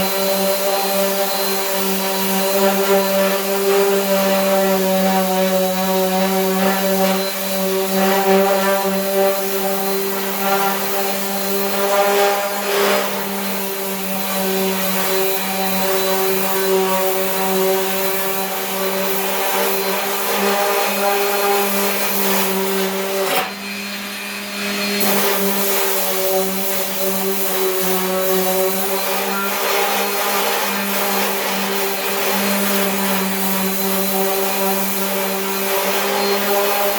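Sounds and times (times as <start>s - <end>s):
power sander running: 0.0s - 36.9s.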